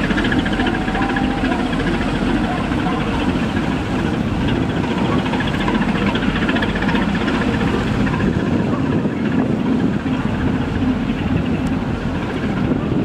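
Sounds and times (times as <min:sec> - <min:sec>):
boat engine running: 0:00.0 - 0:13.0
propeller wash churning water: 0:00.0 - 0:13.0.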